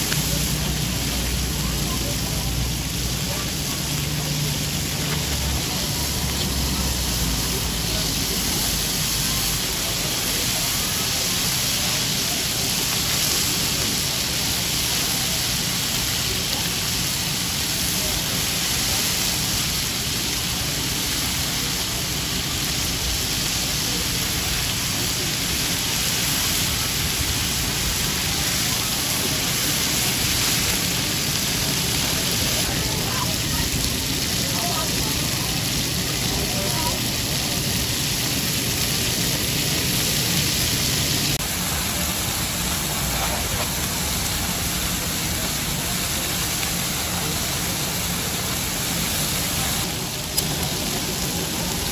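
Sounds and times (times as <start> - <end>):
meat sizzling in oil reversed: 0.0 - 51.9.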